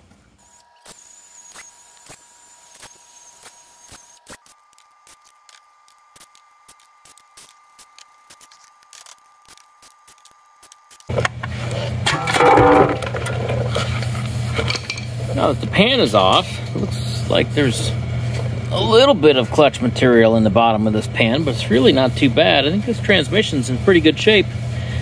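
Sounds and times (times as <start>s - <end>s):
cordless power tool running: 0.3s - 25.0s.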